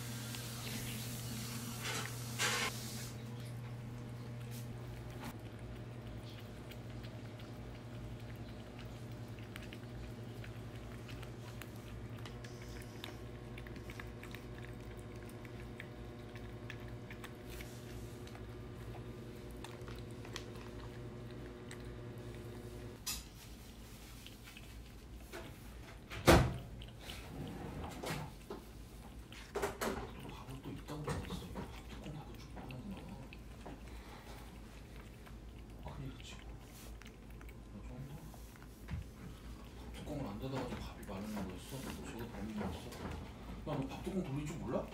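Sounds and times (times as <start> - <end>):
cats licking and chewing: 0.0 - 44.9.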